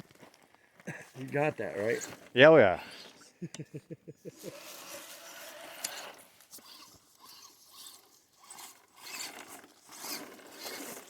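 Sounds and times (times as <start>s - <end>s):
rc truck tyres scraping rocks: 0.0s - 3.3s, 4.3s - 11.0s.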